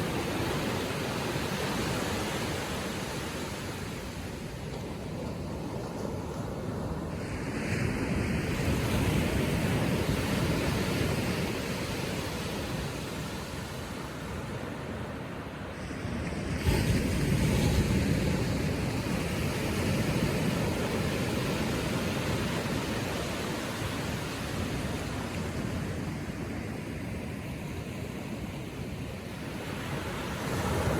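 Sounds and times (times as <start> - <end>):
ocean waves breaking on shore: 0.0 - 30.9.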